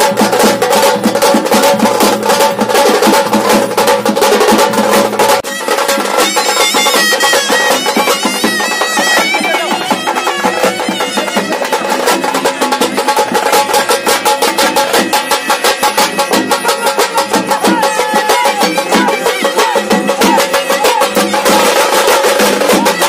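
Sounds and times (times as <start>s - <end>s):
fast dense drumming: 0.0s - 23.0s.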